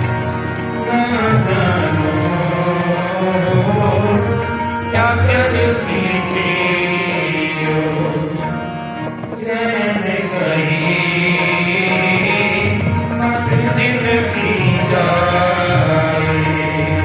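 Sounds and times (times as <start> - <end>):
steady held instrumental notes: 0.0 - 17.0
tabla beating: 0.0 - 17.0.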